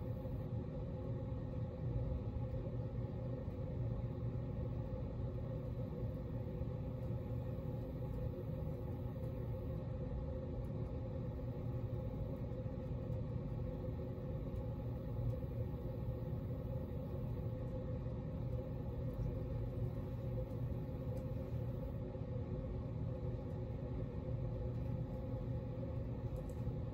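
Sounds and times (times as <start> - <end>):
ceiling fan humming: 0.0 - 26.9.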